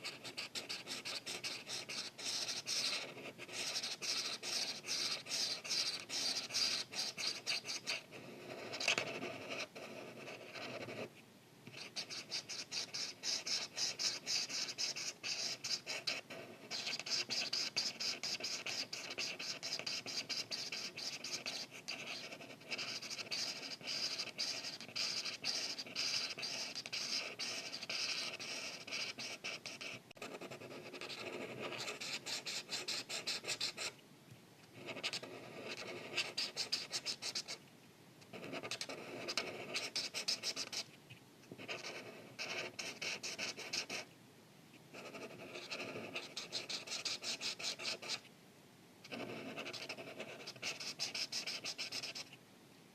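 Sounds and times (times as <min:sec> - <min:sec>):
marker scratching on paper: 0:00.0 - 0:11.1, 0:11.7 - 0:34.0, 0:34.8 - 0:37.6, 0:38.3 - 0:40.9, 0:41.6 - 0:44.1, 0:44.9 - 0:48.2, 0:49.1 - 0:52.3.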